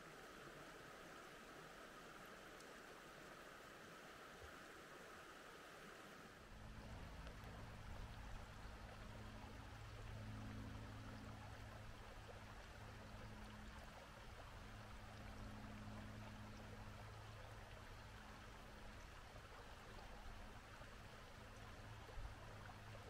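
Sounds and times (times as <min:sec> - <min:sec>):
stream flowing: 0:00.0 - 0:23.0.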